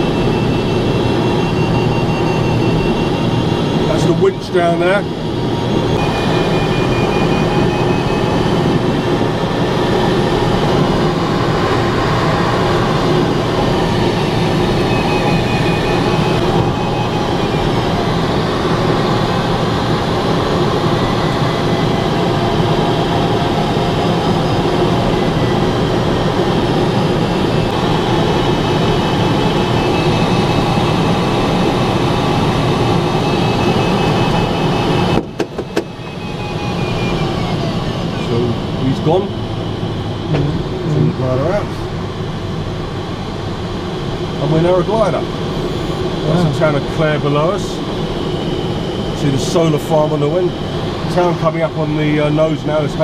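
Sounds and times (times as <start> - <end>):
plane engine drone: 0.0 - 53.0.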